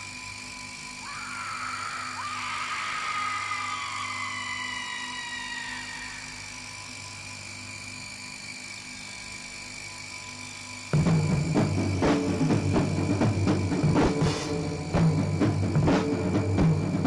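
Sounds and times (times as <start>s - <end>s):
droning whining tones: 0.0s - 17.0s
falling whines: 0.0s - 17.0s
steady hum: 0.0s - 17.0s.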